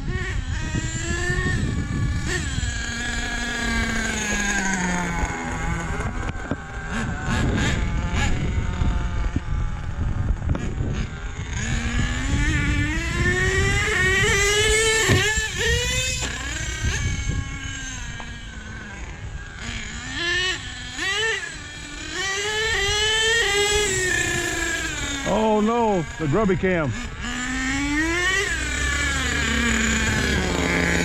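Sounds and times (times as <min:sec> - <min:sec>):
rc truck engine revving: 0:00.0 - 0:31.0.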